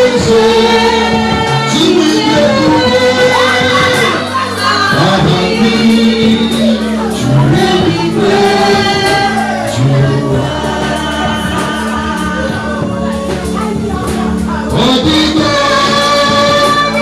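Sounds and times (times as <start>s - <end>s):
choir singing long notes: 0.0s - 17.0s
instrumental accompaniment: 0.0s - 17.0s.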